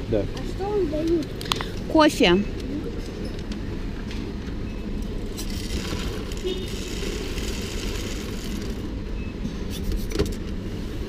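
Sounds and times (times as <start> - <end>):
shop background rumble: 0.0 - 11.0.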